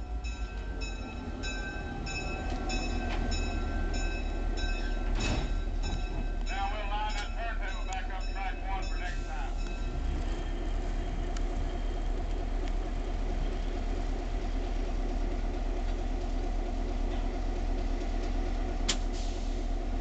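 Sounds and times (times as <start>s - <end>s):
locomotive engine idling: 0.0s - 20.0s.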